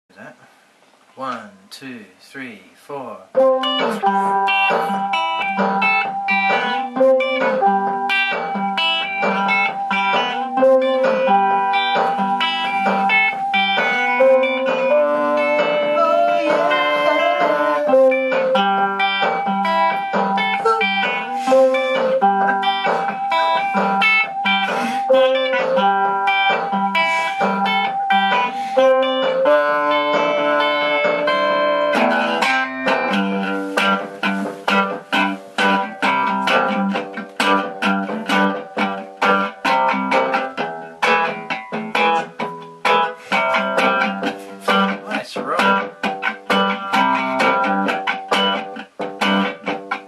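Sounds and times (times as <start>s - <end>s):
electric guitar: 3.3s - 50.0s
electronic keyboard: 3.4s - 50.0s.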